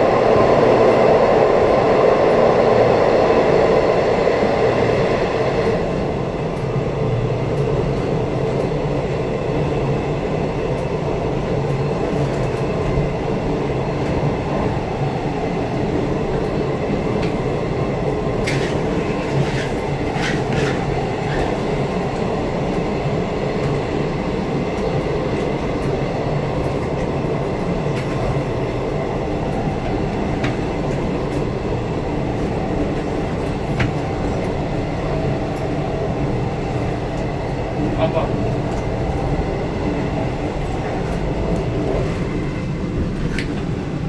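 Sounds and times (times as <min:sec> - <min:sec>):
wheels rumbling on rail: 0:00.0 - 0:44.0.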